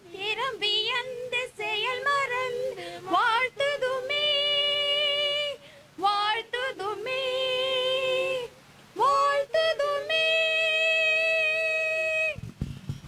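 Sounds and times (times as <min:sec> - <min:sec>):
woman singing slow song: 0:00.0 - 0:12.4.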